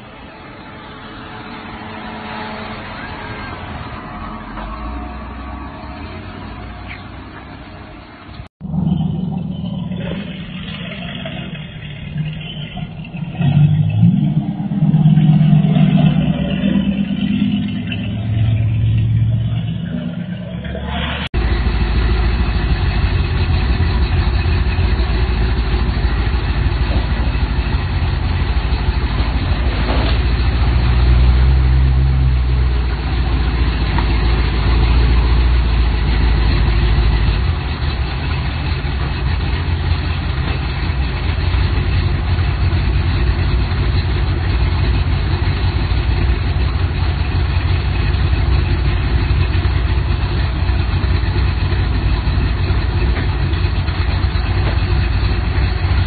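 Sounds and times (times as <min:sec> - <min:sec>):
car engine idling with deep rumble: 0:06.0 - 0:56.0.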